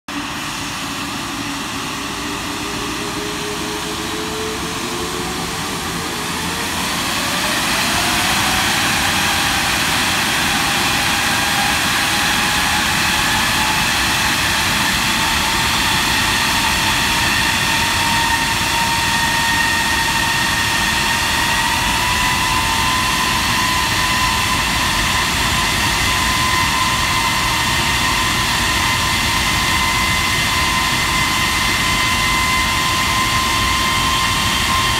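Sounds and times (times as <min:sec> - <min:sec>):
jet engine whine spooling up: 0:00.1 - 0:34.9.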